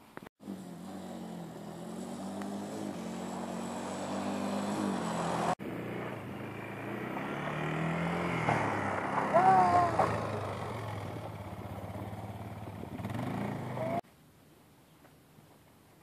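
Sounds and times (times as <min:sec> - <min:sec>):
quad bike engine running: 0:00.4 - 0:14.0.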